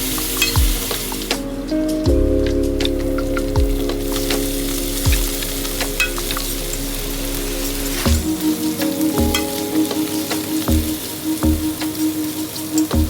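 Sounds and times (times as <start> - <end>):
background music of held notes: 0.0 - 13.0.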